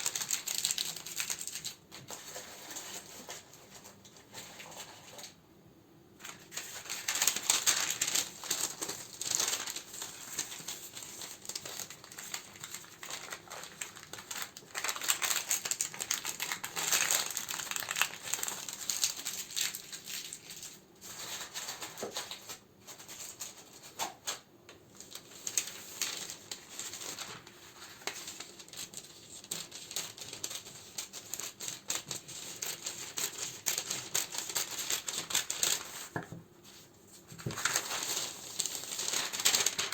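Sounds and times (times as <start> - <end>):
wrappers crinkling: 0.0 - 5.4, 6.2 - 39.9.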